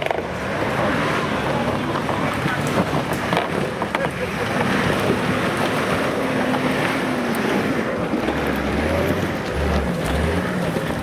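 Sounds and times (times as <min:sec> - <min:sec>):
off-road vehicle engine under load: 0:00.0 - 0:11.0.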